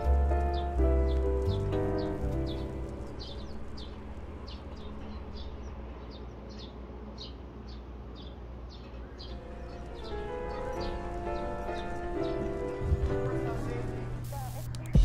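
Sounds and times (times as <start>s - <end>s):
small bird chirping: 0.4s - 13.2s.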